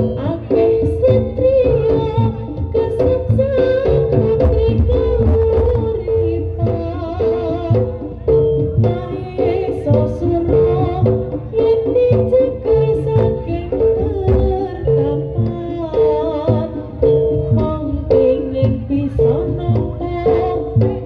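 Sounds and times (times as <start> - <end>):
drums beating steady rhythm: 0.0 - 21.0.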